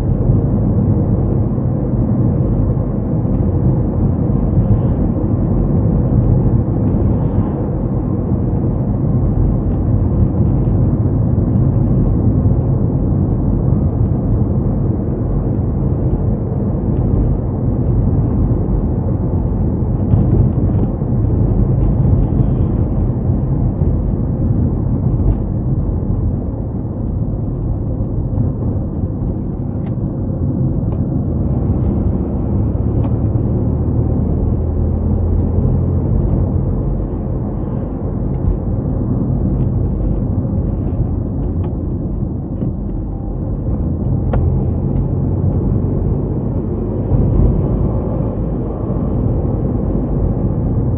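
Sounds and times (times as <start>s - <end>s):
car engine rumble: 0.0s - 50.9s
tyre road noise: 0.0s - 50.9s.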